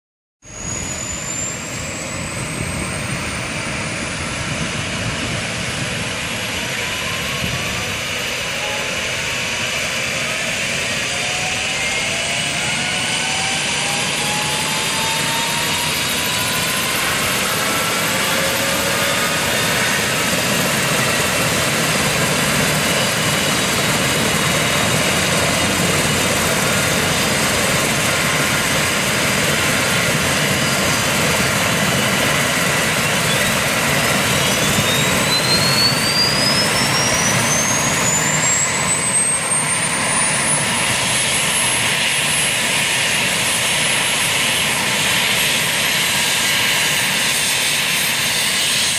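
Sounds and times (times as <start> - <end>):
helicopter turbine and rotor noise: 0.4 - 48.9
high turbine whine rising in pitch: 0.4 - 48.9.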